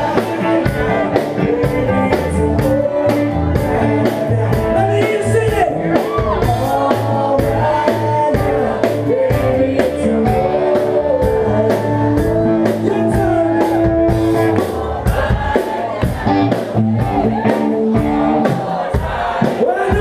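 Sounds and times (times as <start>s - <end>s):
drums steady beat: 0.0s - 20.0s
guitars: 0.0s - 20.0s
singer singing: 0.0s - 20.0s.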